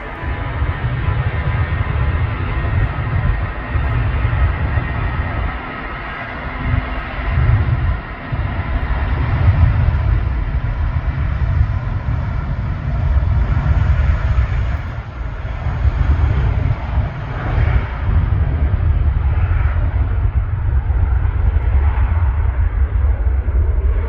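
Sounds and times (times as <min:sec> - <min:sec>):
jet engines rushing: 0:00.0 - 0:24.0
wind buffeting microphone: 0:00.0 - 0:24.0.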